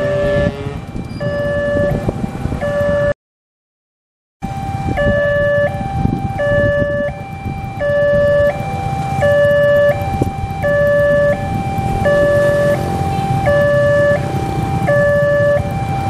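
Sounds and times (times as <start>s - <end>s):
motorcycle and car engines idling: 0.0s - 3.1s, 4.4s - 16.0s
level crossing two-tone alarm: 0.0s - 3.2s, 4.4s - 16.0s.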